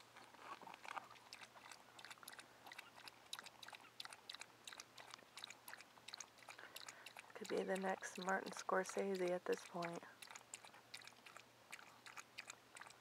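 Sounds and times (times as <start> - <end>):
dog lapping water from bowl: 0.3 - 13.0.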